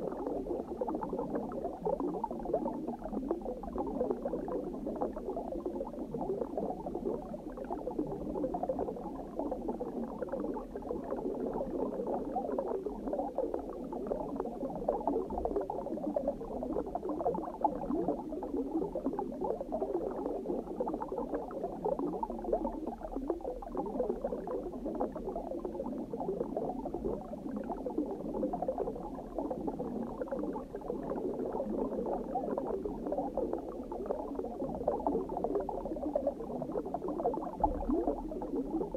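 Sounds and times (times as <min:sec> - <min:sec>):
underwater bubbling: 0:00.0 - 0:38.9.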